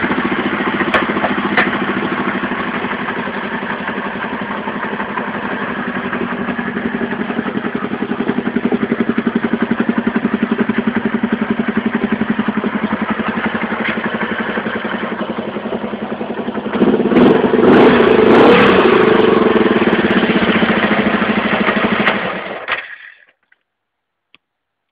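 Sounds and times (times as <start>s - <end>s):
motorcycle engine idling: 0.0s - 22.7s.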